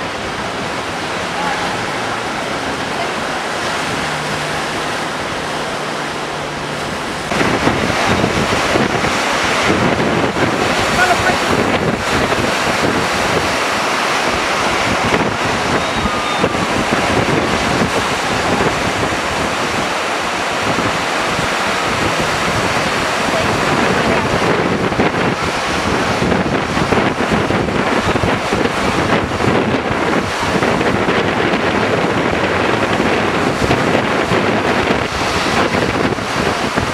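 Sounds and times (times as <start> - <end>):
ocean surf breaking: 0.0 - 36.9
wind buffeting microphone: 0.0 - 36.9.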